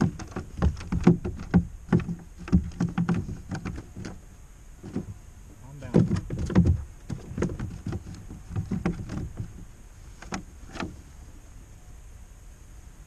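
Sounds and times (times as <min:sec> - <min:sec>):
knocks and bumps in a boat: 0:00.0 - 0:04.2, 0:04.8 - 0:11.0.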